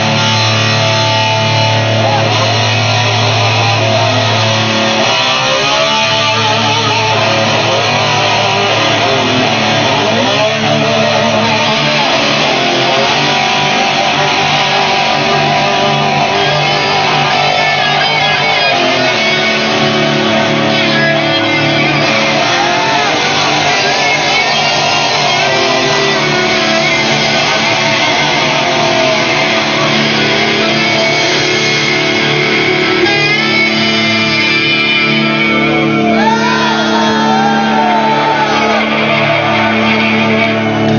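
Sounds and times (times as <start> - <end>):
bass guitar: 0.0 - 40.9
electric guitars: 0.0 - 40.9.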